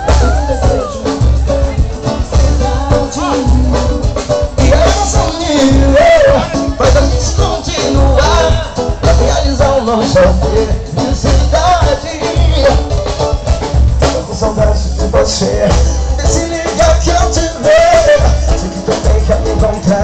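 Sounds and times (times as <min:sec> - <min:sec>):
live band playing pop song: 0:00.0 - 0:20.0.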